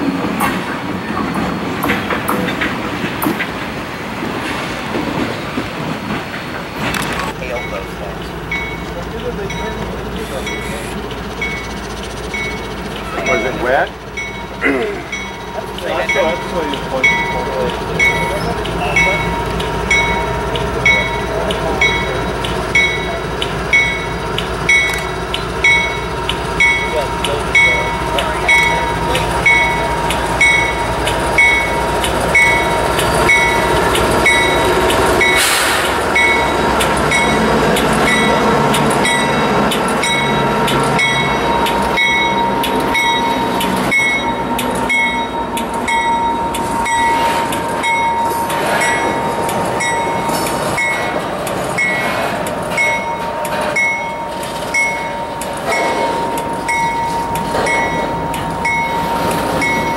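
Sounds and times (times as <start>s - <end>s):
diesel locomotive rumbling past: 0.0s - 59.9s
train wheels clacking over rail joints: 0.0s - 59.9s.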